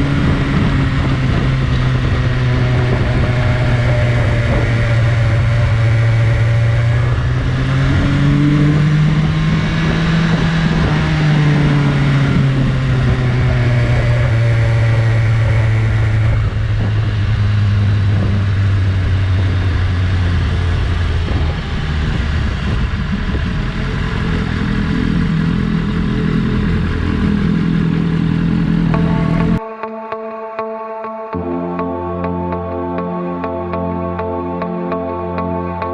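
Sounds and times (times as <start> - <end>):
motorcycle engine running: 0.0 - 29.6.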